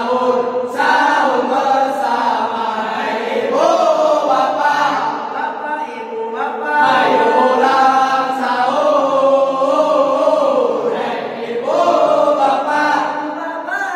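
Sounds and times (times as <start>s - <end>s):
men chanting in unison: 0.0s - 13.9s.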